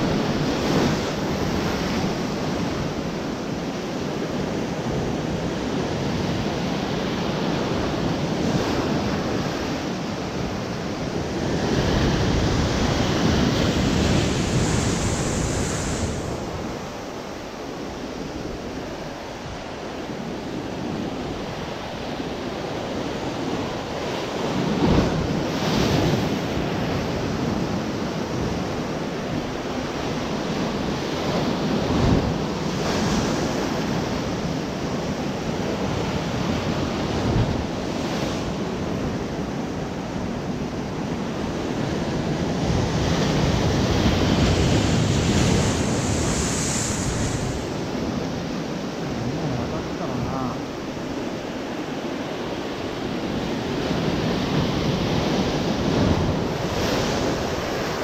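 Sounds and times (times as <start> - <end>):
surf breaking on rocky shore: 7.6 - 19.8, 23.0 - 58.0.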